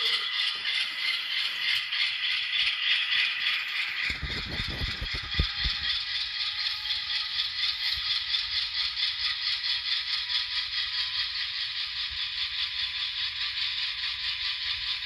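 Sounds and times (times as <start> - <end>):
tinny toy diesel engine sound: 0.0 - 15.0.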